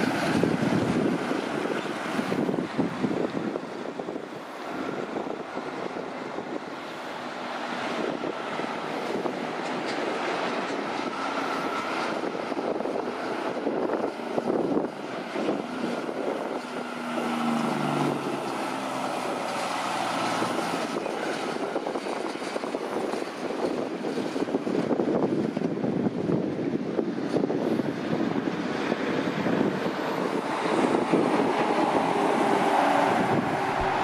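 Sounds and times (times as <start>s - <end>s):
truck diesel engine running: 0.0s - 25.0s, 26.9s - 34.0s
road and tyre noise: 0.0s - 34.0s.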